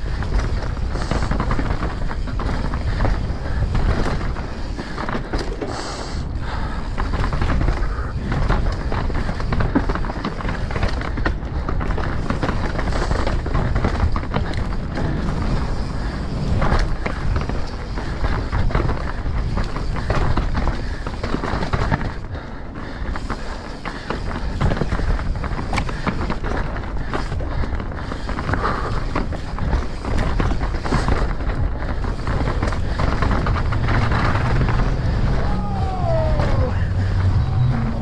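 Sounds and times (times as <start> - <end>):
bike rattling and clattering: 0.0 - 38.0
mountain bike rumbling on rough trail: 0.0 - 38.0.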